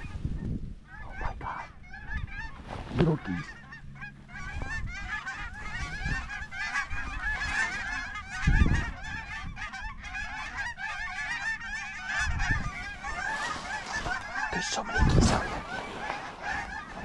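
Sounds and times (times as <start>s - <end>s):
geese calling: 0.0s - 17.0s.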